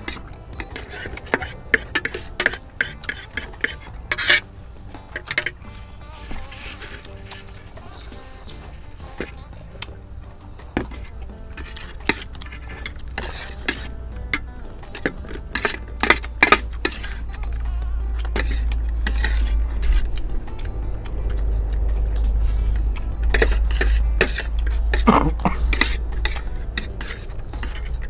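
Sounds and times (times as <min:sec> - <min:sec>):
utensils clinking against bowls: 0:00.0 - 0:10.1, 0:10.7 - 0:20.2, 0:23.0 - 0:28.0.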